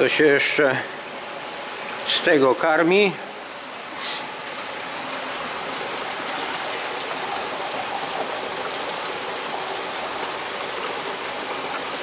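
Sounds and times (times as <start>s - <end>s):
water flowing with splashing hiss: 0.0s - 12.0s.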